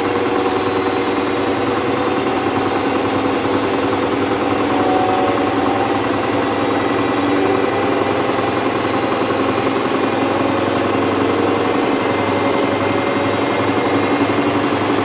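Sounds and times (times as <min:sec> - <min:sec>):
high mechanical whine: 0:00.0 - 0:15.0
washing machine running: 0:00.0 - 0:15.0.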